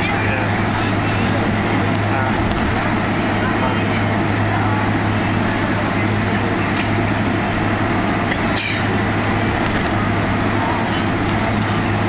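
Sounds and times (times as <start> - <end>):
airplane cabin engine hum: 0.0 - 12.0.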